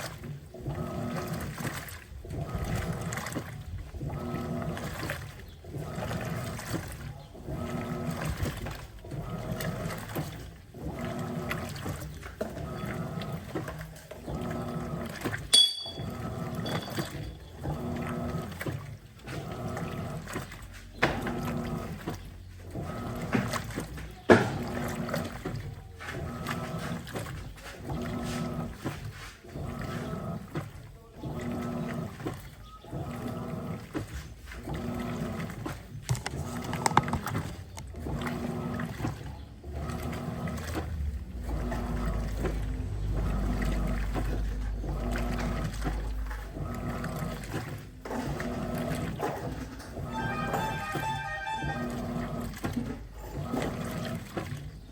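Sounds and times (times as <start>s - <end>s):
washing machine motor hum: 0.0s - 54.9s
water sloshing: 0.0s - 54.9s.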